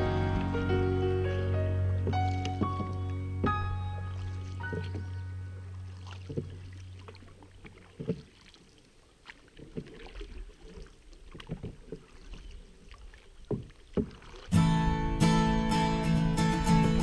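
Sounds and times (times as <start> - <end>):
paddles splashing in water: 0.0 - 15.6.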